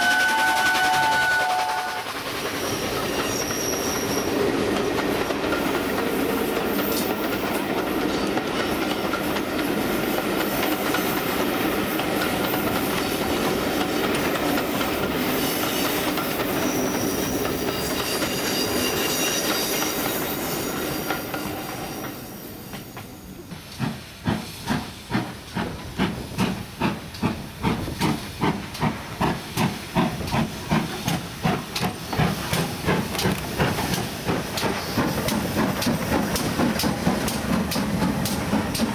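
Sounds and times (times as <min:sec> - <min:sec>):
steam locomotive exhaust chuffing: 0:00.0 - 0:20.5, 0:22.8 - 0:38.9
train wheels rumbling on rails: 0:00.0 - 0:38.9.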